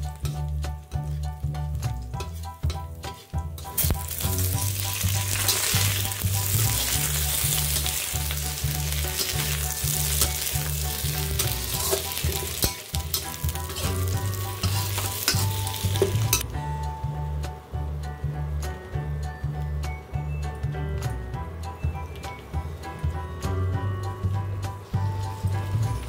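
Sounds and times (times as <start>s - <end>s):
oil sizzling in a wok: 0.0s - 17.5s, 21.7s - 26.0s.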